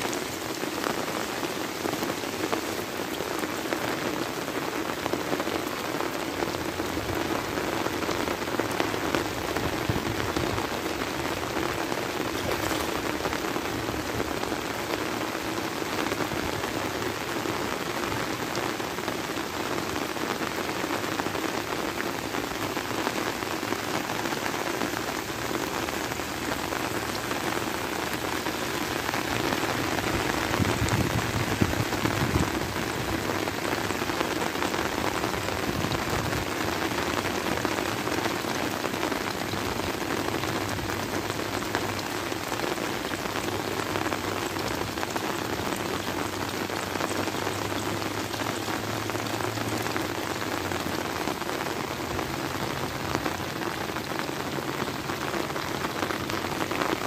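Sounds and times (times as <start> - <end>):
heavy rain on paddies: 0.0 - 57.0.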